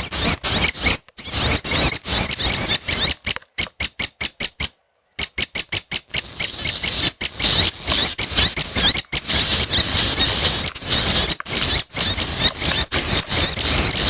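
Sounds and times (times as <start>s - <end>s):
young birds chirping: 0.0s - 14.0s.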